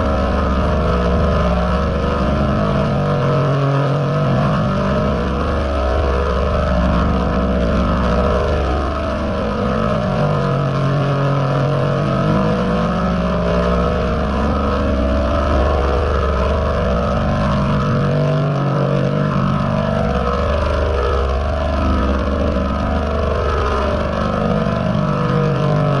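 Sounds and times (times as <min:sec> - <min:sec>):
distorted rumbling noise: 0:00.0 - 0:26.0
low droning tones: 0:00.0 - 0:26.0.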